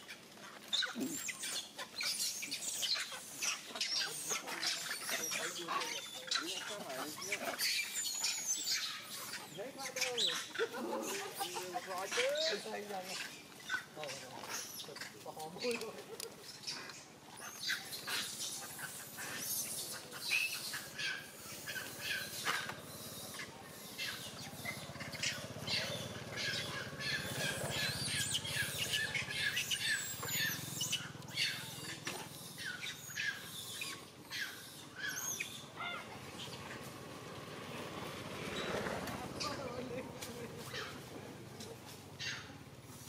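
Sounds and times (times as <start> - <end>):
macaques squealing and squeaking: 0.0 - 43.0.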